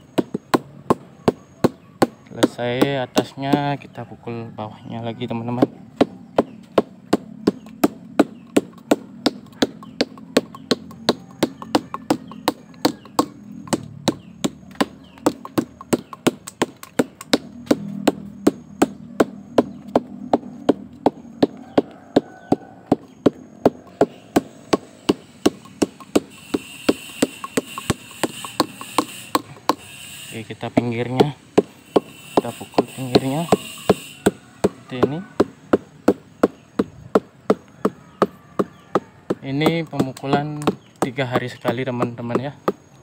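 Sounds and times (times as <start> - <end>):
mallet knocking on stalk: 5.5 - 29.9, 30.7 - 42.8.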